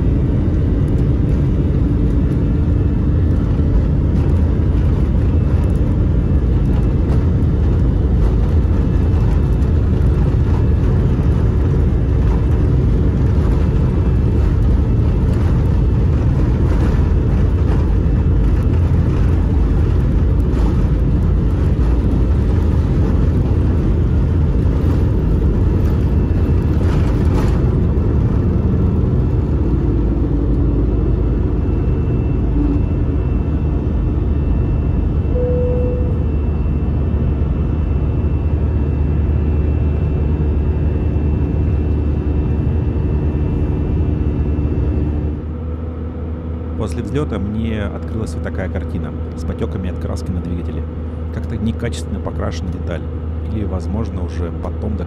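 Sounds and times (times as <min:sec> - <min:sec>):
jet engines at takeoff thrust: 0:00.0 - 0:55.0
runway rumble: 0:00.0 - 0:55.0.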